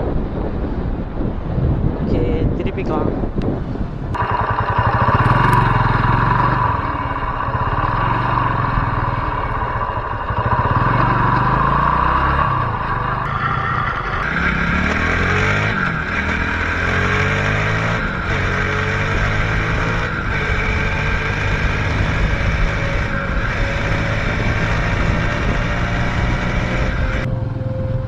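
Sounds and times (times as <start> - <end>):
motorcycle engine revving: 4.0 - 28.0.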